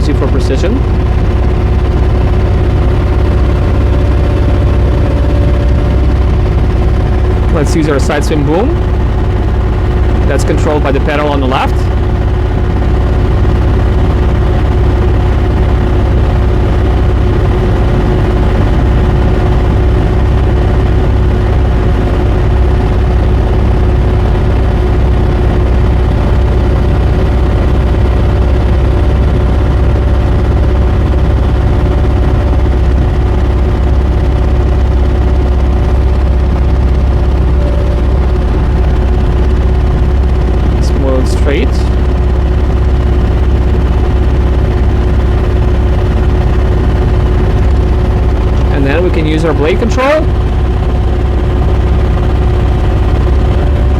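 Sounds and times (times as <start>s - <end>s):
excavator diesel engine rumbling: 0.0s - 53.9s
hydraulic hum: 0.0s - 53.9s.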